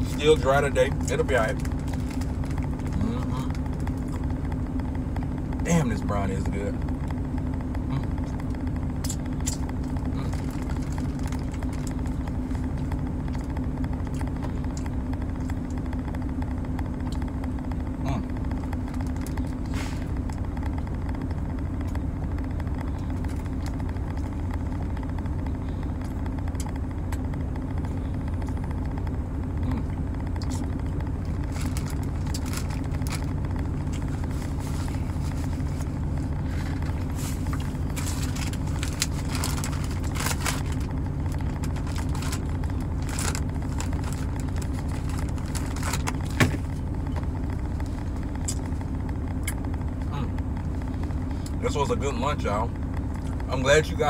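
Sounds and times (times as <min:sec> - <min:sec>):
truck idling hum: 0:00.0 - 0:54.0.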